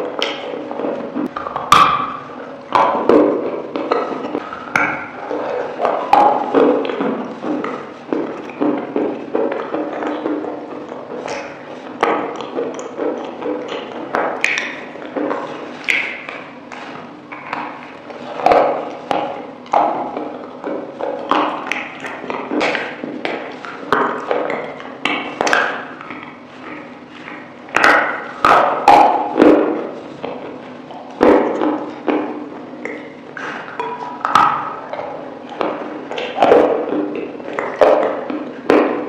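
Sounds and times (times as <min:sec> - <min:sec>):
lip smacks and sticky clicks: 0:00.0 - 0:39.0
wet chewing: 0:00.0 - 0:39.0.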